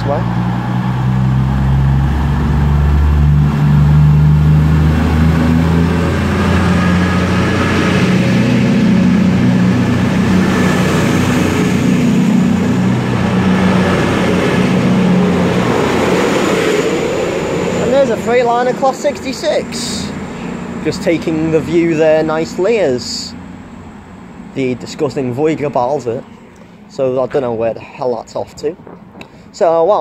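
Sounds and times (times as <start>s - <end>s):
diesel train engines accelerating: 0.0s - 30.0s
rumble of train wheels: 0.0s - 30.0s.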